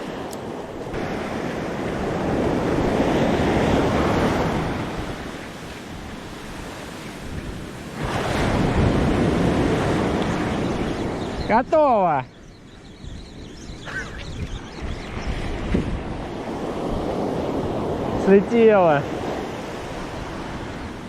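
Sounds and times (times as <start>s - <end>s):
surf washing onto shore: 0.0s - 12.2s, 15.3s - 21.0s
wind buffeting microphone: 0.0s - 21.0s.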